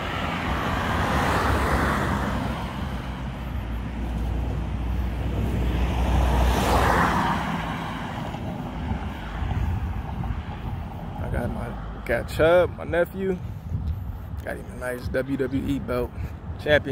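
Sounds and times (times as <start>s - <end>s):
steady low traffic rumble: 0.0s - 16.9s
vehicles passing: 0.0s - 16.9s.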